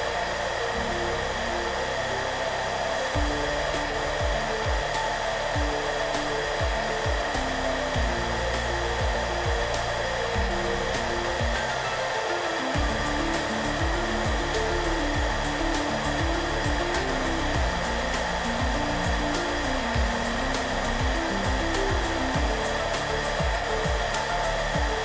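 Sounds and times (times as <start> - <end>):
hair dryer blowing: 0.0 - 25.0
soft background music: 0.0 - 25.0.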